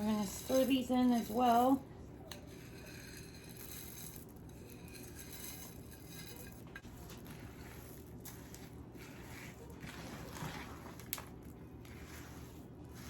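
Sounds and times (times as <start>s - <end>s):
spoon stirring thick mixture in bowl: 0.0s - 13.0s.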